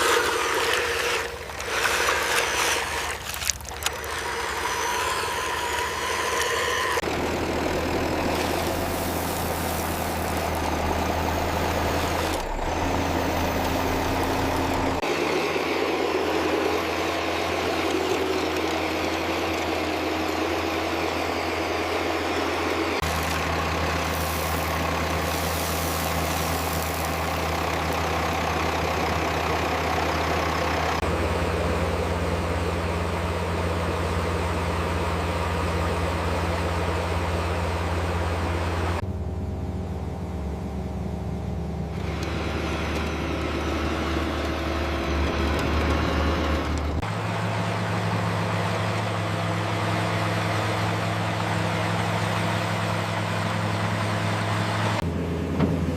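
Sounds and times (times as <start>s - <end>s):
heavy diesel engine hum: 0.0s - 55.9s.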